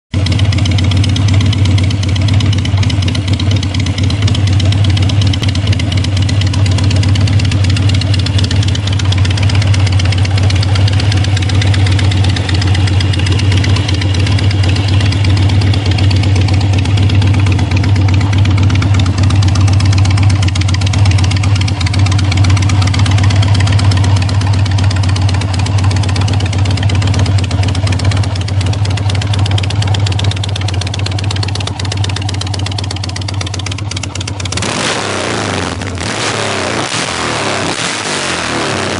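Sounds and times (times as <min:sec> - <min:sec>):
motorcycle engine idling: 0:00.1 - 0:38.9.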